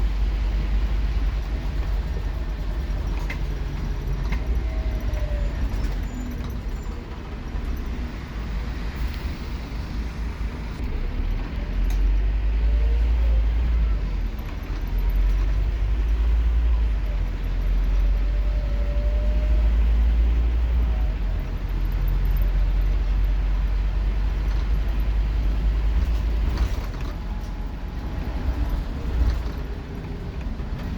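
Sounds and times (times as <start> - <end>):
bus diesel engine droning: 0.0 - 30.9
bus interior rattles and clicks: 0.0 - 30.9
road and cabin noise: 0.0 - 30.9.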